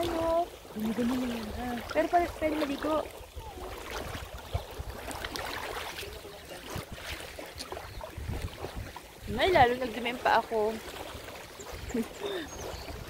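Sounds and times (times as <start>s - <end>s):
water lapping at shore: 0.0s - 13.0s.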